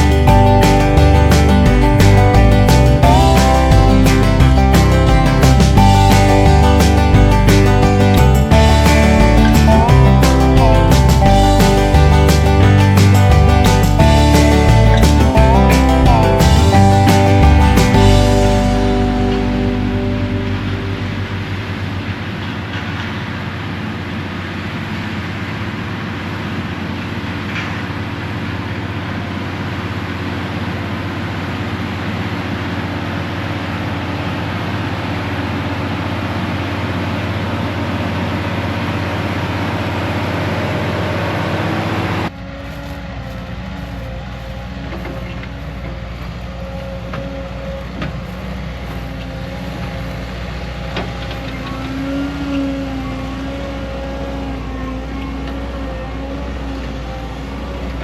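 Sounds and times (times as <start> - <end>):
machine with wavering whine: 0.0 - 24.2, 24.9 - 58.0
heavy diesel machinery running: 0.0 - 58.0.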